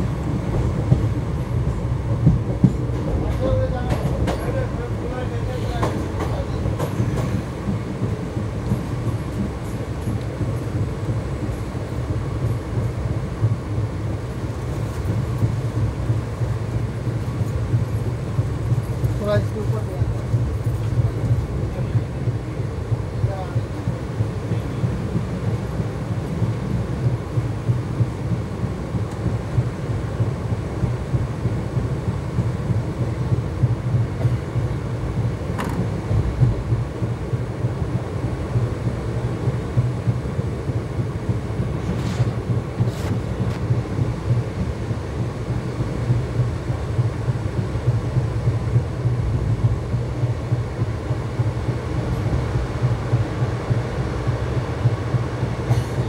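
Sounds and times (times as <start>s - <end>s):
wheels rumbling on rails: 0.0s - 56.0s.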